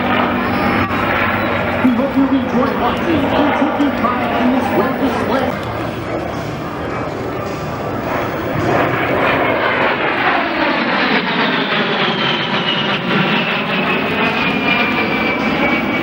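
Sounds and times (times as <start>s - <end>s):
aircraft passing low: 0.0s - 16.0s.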